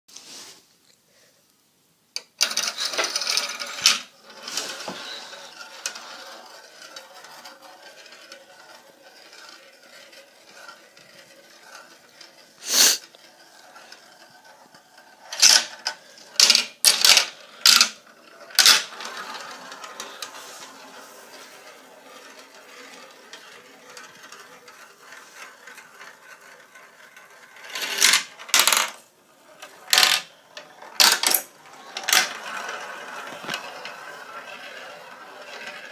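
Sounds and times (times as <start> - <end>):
marbles clacking: 2.2 - 35.9
marbles rolling on a track: 2.2 - 35.9.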